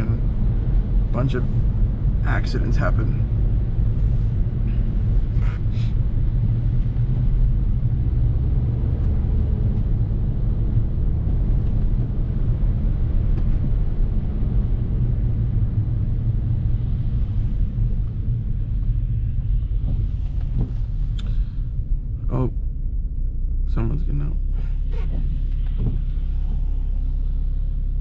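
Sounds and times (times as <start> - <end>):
car engine running: 0.0 - 28.0
tyre and road rumble: 0.0 - 28.0.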